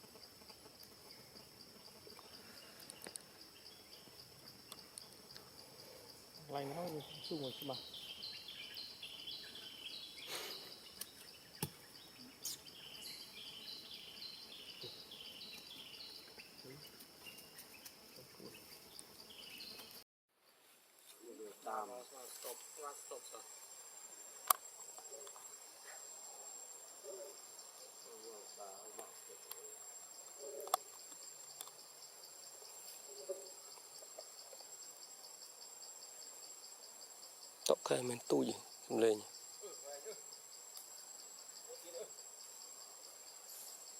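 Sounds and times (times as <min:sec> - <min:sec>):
insects chirping: 0:00.0 - 0:43.9.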